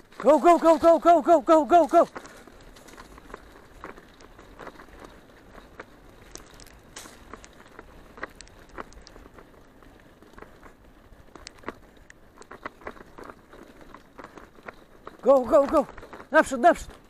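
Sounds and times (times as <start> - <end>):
bicycle clicks and rattles: 0.0 - 17.0
bicycle tyres rumbling on dirt: 0.0 - 17.0.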